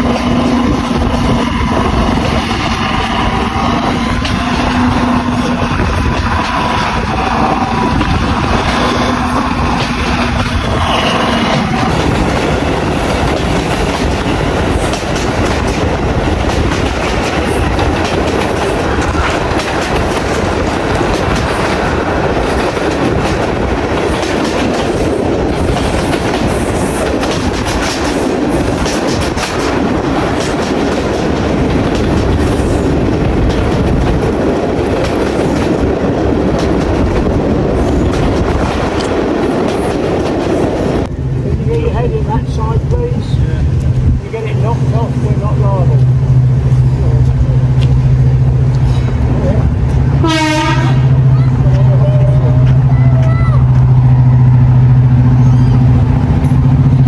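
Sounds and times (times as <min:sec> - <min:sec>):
train wheels clattering over rail joints: 0:00.0 - 0:57.0.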